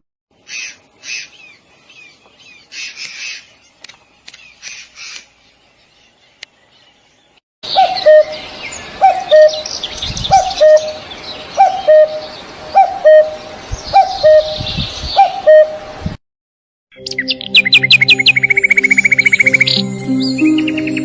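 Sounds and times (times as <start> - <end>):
high bird chirping: 0.5 - 15.8, 16.9 - 21.0.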